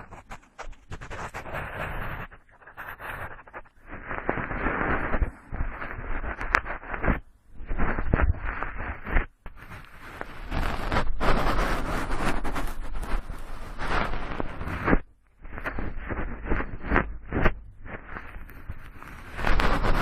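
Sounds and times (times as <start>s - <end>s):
cotton swab rubbing in ear: 0.0s - 20.0s
small crackles: 0.0s - 20.0s.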